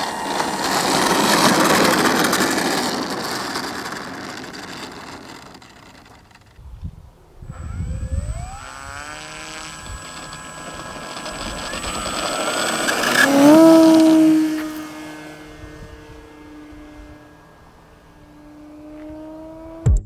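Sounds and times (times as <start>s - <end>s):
model aeroplane engine throttling up: 0.0s - 19.9s.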